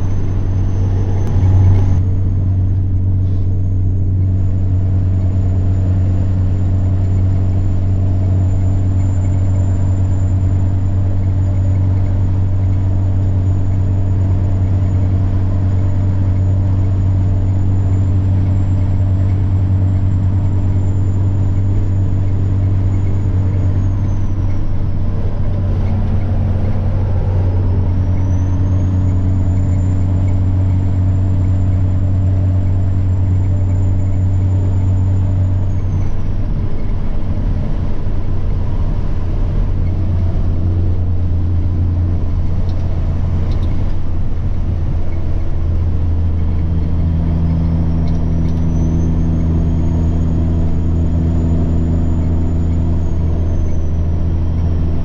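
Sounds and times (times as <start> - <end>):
diesel truck engine drone: 0.0 - 55.0
high turbo whine: 0.0 - 55.0.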